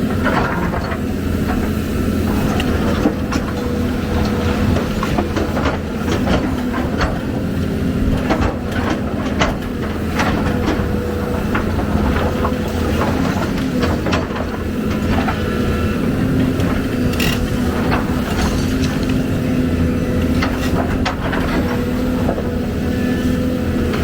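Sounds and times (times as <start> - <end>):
machine clanks and knocks: 0.0 - 22.6
diesel excavator engine running: 0.0 - 24.0.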